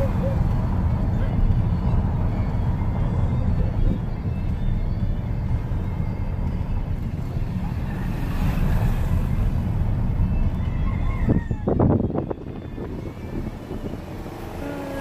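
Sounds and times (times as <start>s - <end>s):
road and wind rumble in car: 0.0s - 15.0s.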